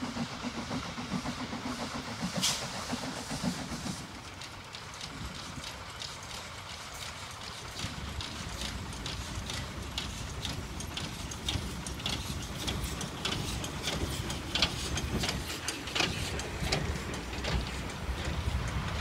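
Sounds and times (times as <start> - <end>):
steam locomotive exhaust beat: 0.0 - 19.0
wheels rumbling on track: 0.0 - 19.0.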